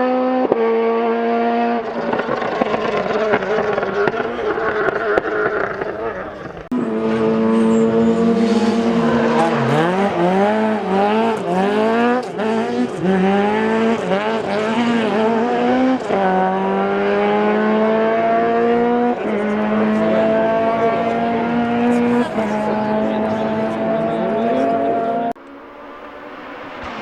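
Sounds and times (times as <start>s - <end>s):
rally car engine revving: 0.0s - 27.0s
gearshift: 1.3s - 27.0s.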